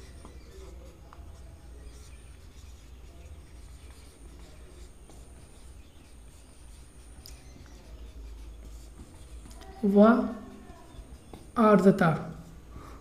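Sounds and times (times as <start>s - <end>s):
marker scratching on whiteboard: 0.0s - 12.7s.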